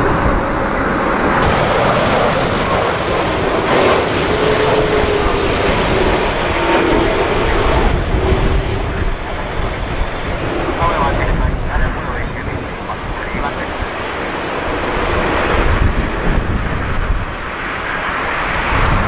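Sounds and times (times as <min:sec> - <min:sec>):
jet engines rumbling: 0:00.0 - 0:19.0
wind blowing on microphone: 0:00.0 - 0:19.0.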